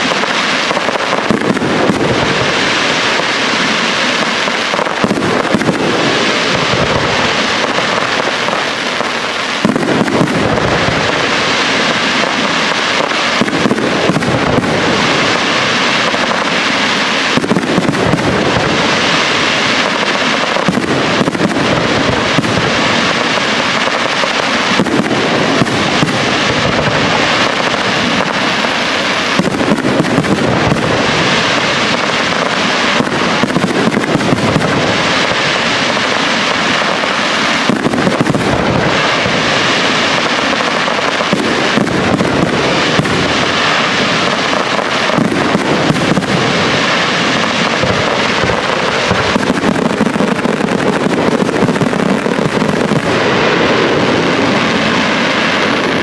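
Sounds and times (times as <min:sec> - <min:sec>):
fireworks bursting: 0:00.0 - 0:56.0
fireworks crackling: 0:00.0 - 0:56.0.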